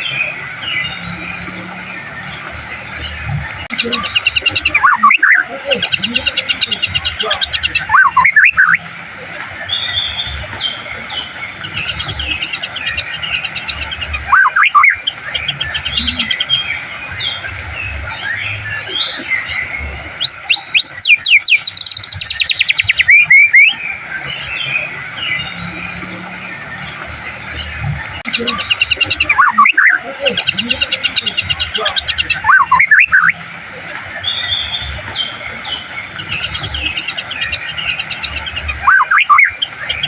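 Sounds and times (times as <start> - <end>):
background birdsong: 0.0 - 40.0
bird singing chirps and trills: 0.0 - 40.0.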